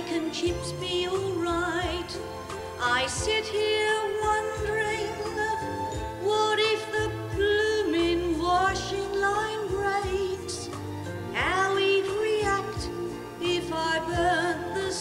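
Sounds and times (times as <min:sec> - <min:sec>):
instrumental accompaniment: 0:00.0 - 0:15.0
woman singing with vibrato: 0:00.0 - 0:15.0.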